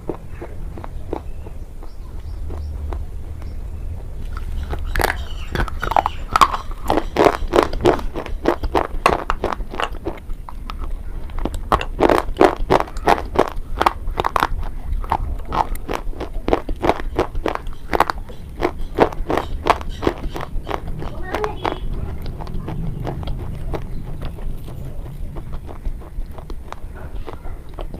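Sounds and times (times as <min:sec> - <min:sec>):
crisp crunchy chewing: 0:00.0 - 0:27.9.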